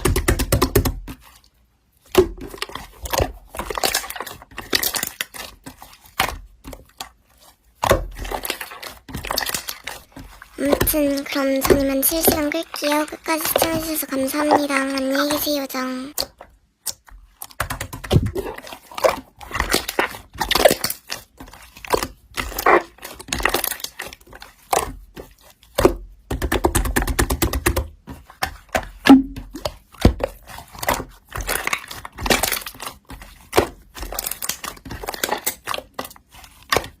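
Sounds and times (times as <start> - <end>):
slime squelching by hand: 0.0 - 37.0.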